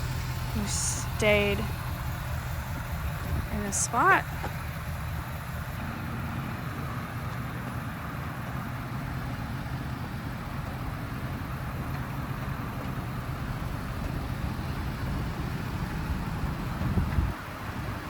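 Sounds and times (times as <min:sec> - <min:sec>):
pickup truck engine running: 0:00.0 - 0:18.0.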